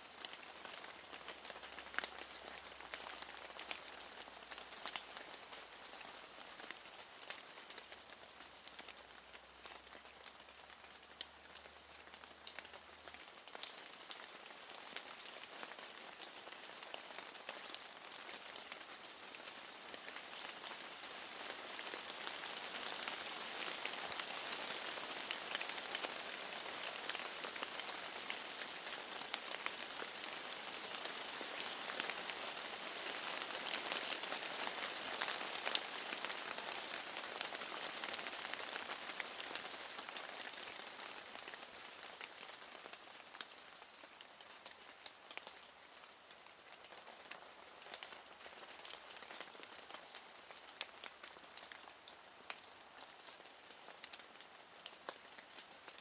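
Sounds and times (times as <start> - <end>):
rain on window glass: 0.2 - 56.0.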